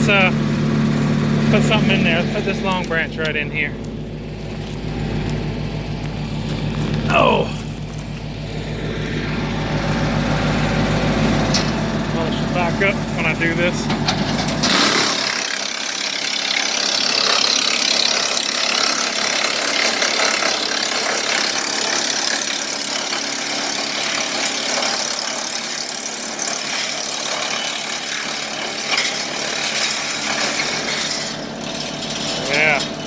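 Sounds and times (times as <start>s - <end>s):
wood chipper shredding branch: 0.0s - 33.0s.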